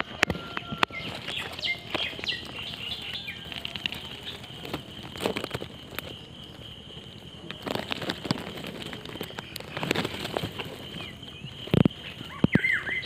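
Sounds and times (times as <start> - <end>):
dry leaves and twigs rustling: 0.0 - 13.0
high-pitched insect trill: 0.0 - 13.0.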